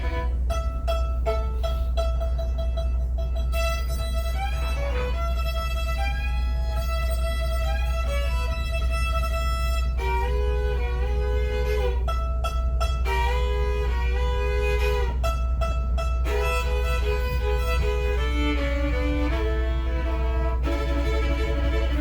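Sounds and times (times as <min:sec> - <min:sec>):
bowed fiddle playing tune: 0:00.0 - 0:22.0
steady low rumble: 0:00.0 - 0:22.0.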